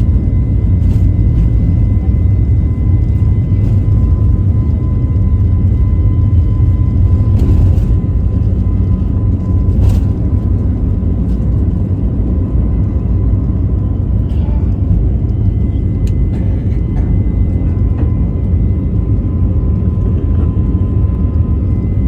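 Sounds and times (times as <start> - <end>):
jet engines rumbling: 0.0 - 22.0
thin steady whine: 0.0 - 22.0.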